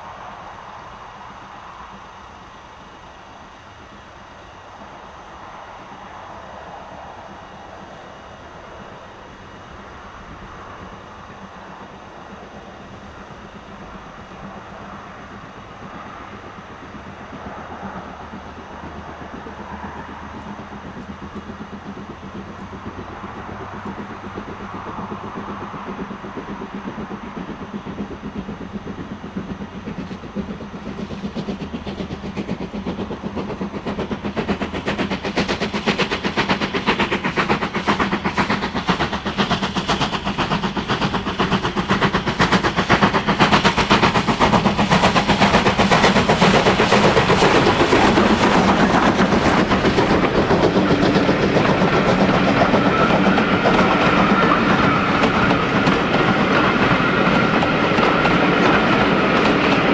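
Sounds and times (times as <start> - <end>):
steam locomotive passing: 0.0 - 59.9.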